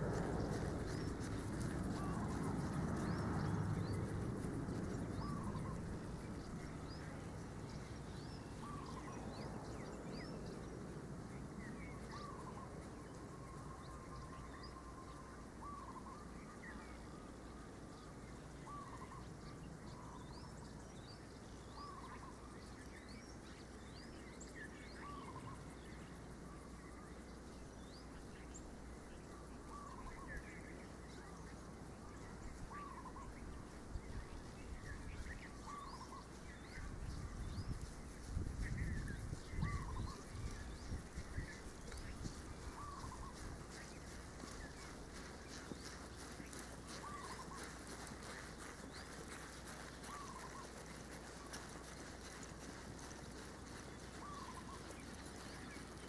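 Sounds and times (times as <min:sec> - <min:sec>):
birds calling: 0:00.0 - 0:10.8, 0:11.4 - 0:56.0
outdoor background noise: 0:00.0 - 0:56.0.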